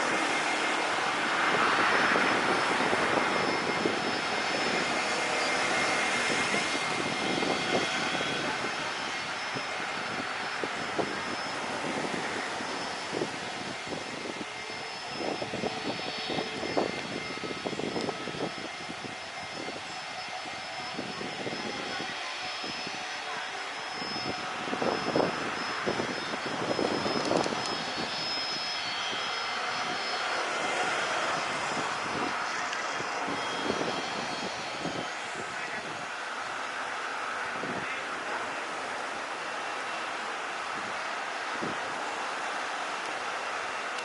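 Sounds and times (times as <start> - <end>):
wind buffeting microphone: 0.0 - 38.0, 40.5 - 42.1
jet engine running: 0.0 - 44.0
thin high whine: 0.0 - 44.0.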